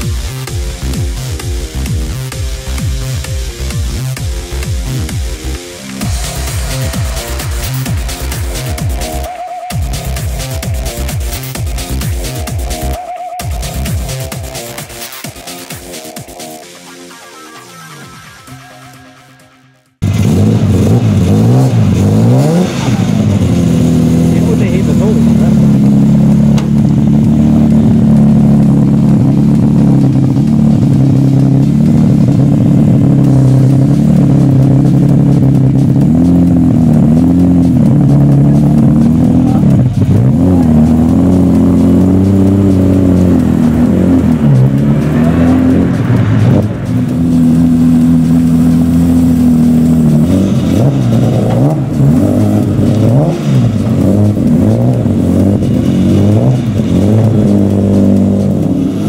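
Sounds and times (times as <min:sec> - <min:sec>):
race car engine revving: 0:00.0 - 0:17.2, 0:20.0 - 0:59.0.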